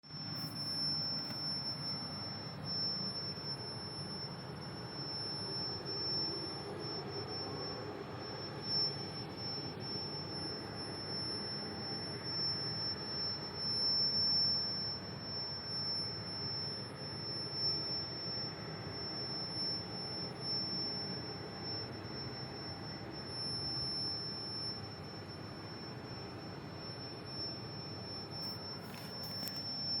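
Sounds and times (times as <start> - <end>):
high-pitched steady whistle: 0.0 - 30.0.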